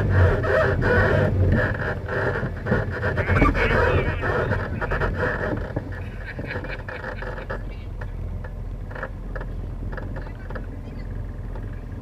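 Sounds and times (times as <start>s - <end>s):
atv engine running: 0.0s - 12.0s
knocks and rattles from bumps: 1.5s - 12.0s.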